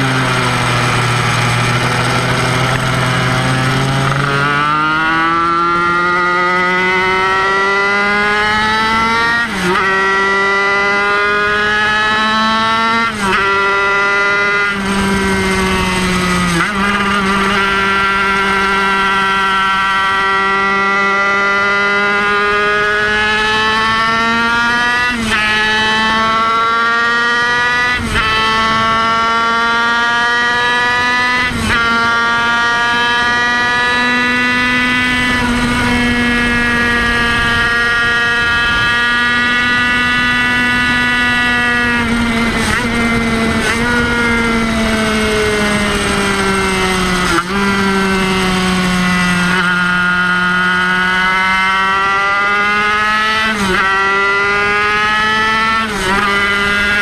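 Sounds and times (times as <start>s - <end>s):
two-stroke racing engine at high revs: 0.0s - 57.0s.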